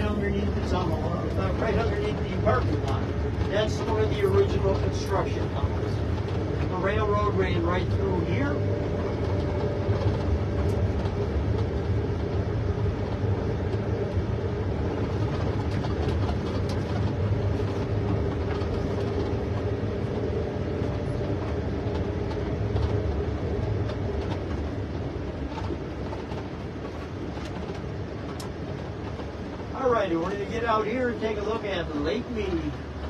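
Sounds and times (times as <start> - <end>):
vehicle engine and road rumble: 0.0 - 33.0.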